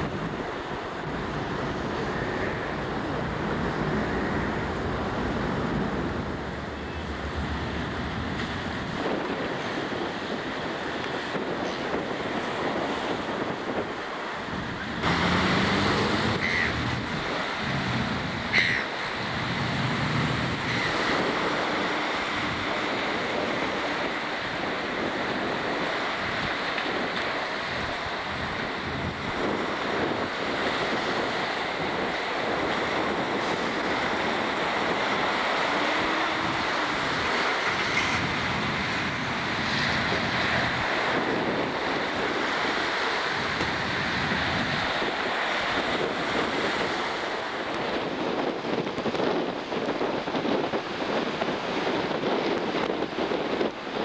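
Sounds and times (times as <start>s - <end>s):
surf breaking on shore: 0.0s - 54.0s
wind buffeting microphone: 0.0s - 54.0s.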